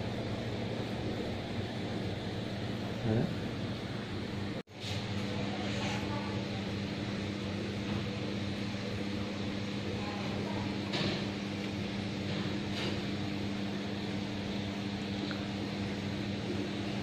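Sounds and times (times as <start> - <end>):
electric hum: 0.0 - 17.0.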